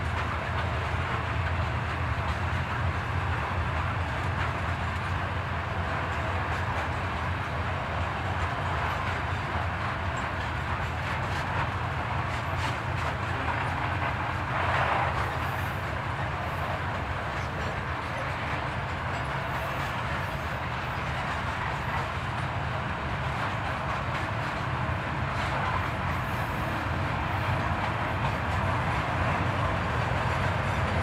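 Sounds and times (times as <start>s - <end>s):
diesel locomotive: 0.0s - 31.0s
freight train wagons rumbling: 0.0s - 31.0s.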